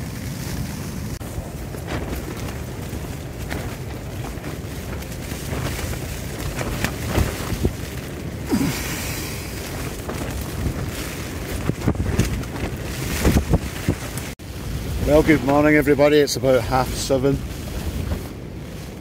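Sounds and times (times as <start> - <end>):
storm wind rushing and rumbling: 0.0 - 19.0
tent fabric flapping: 0.0 - 19.0
wind on microphone: 0.0 - 19.0.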